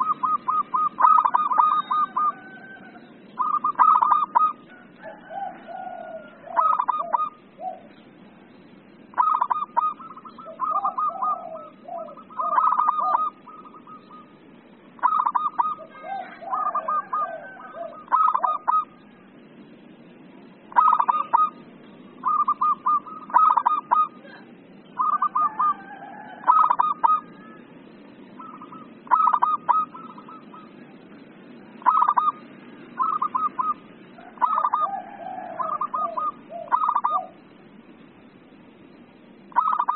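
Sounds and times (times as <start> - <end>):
dove staccato cooing: 0.0 - 8.0, 9.0 - 19.2, 20.5 - 27.5, 28.3 - 31.0, 31.7 - 37.5, 39.4 - 39.9
low warbling coos: 0.0 - 8.0, 9.0 - 19.4, 20.5 - 37.5, 39.5 - 39.9.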